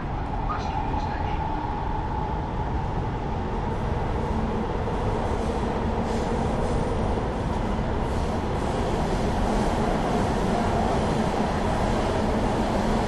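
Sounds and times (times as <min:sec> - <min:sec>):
faint train hum: 0:00.0 - 0:13.0
train wheels rumbling on track: 0:00.0 - 0:13.0.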